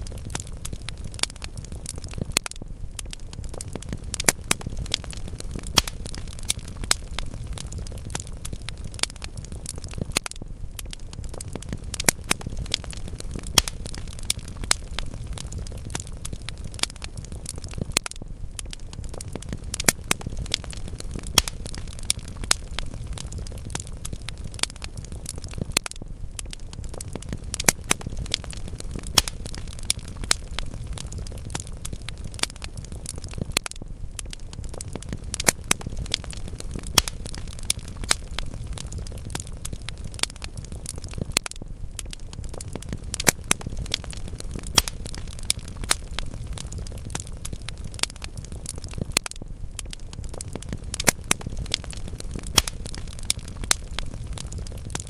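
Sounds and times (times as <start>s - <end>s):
fireplace logs crackling and popping: 0.0s - 55.0s
low rumble of flame: 0.0s - 55.0s.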